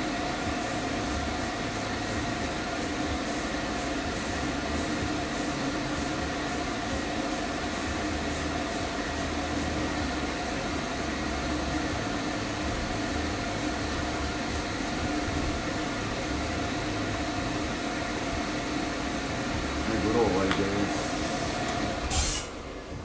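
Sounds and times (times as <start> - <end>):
dryer blowing air: 0.0 - 23.0
dryer motor hum: 0.0 - 23.0.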